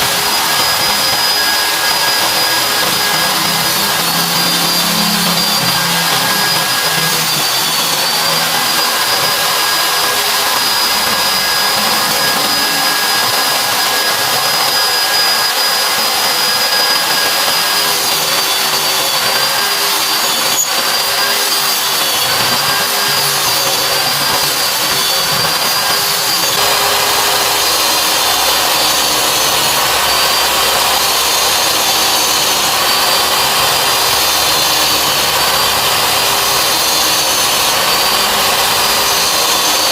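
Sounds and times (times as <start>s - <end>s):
circular saw motor whining: 0.0s - 39.9s.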